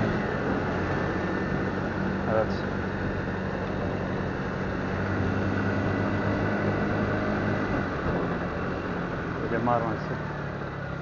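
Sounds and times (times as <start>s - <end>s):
motorcycle engine humming: 0.0s - 11.0s
road and wind noise: 0.0s - 11.0s.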